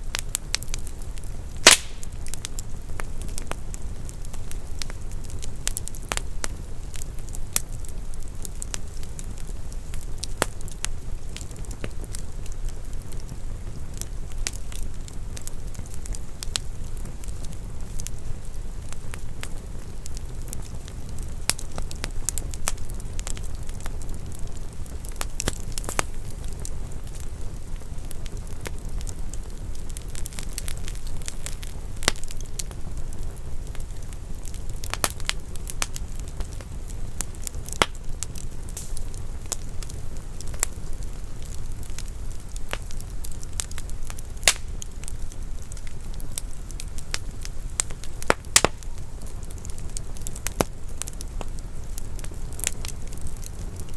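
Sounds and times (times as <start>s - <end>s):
flames rumbling: 0.0s - 53.9s
logs crackling and popping: 0.0s - 53.9s.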